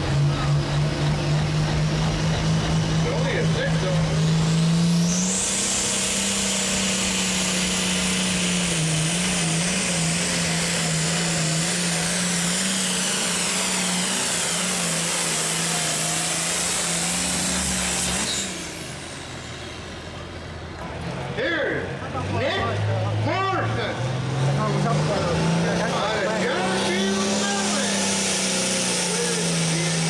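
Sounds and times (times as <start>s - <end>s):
tractor diesel engine at full throttle: 0.0s - 30.0s.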